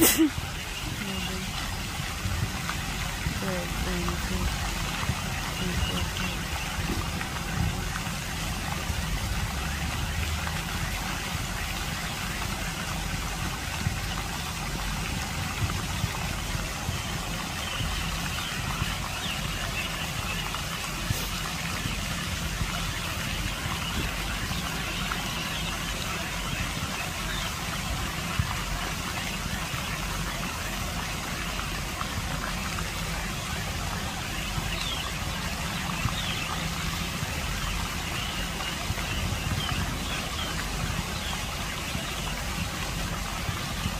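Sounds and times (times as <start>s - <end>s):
fountain jets splashing into pond: 0.0s - 43.9s.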